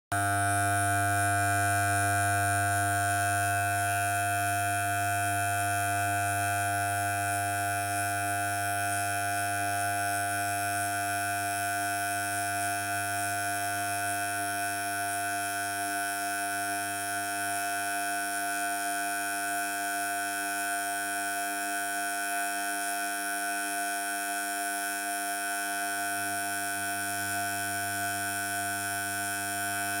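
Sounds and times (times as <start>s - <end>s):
electric hair clippers buzzing: 0.1s - 30.0s.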